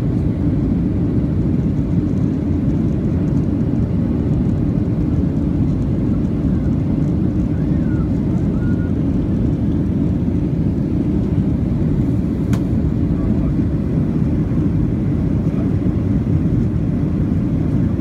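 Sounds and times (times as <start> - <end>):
airliner cabin engine rumble: 0.0 - 18.0.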